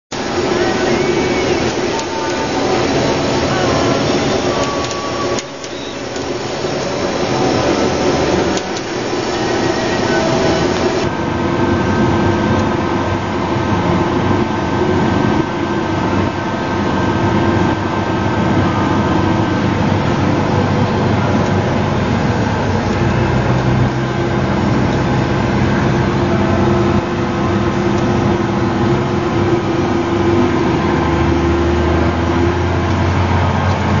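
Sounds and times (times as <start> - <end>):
combine harvester drone: 0.1 - 34.0.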